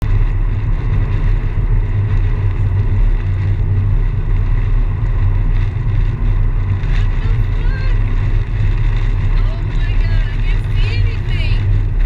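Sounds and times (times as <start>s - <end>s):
car engine and road rumble: 0.0s - 12.0s
wind: 0.0s - 12.0s.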